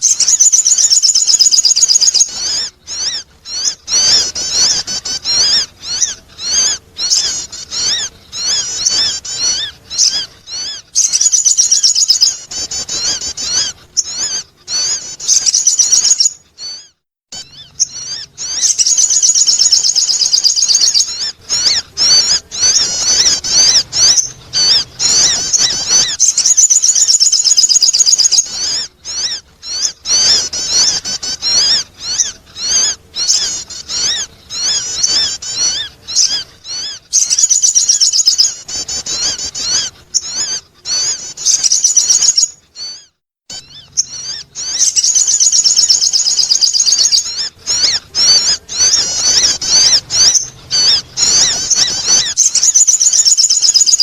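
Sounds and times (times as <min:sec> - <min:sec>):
bird call twittering: 0:00.0 - 0:54.0.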